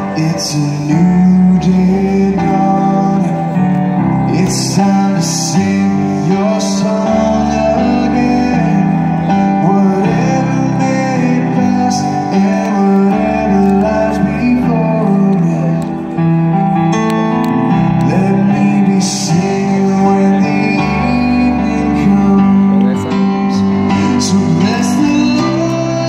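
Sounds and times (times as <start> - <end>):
man singing: 0.0 - 16.8, 17.8 - 26.0
keyboard chords: 0.0 - 26.0.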